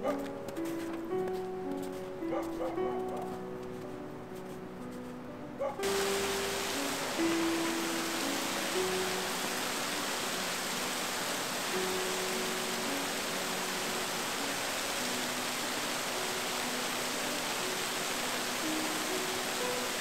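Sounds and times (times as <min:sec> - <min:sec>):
soft ambient music: 0:00.0 - 0:20.0
steady rushing hiss: 0:00.2 - 0:20.0.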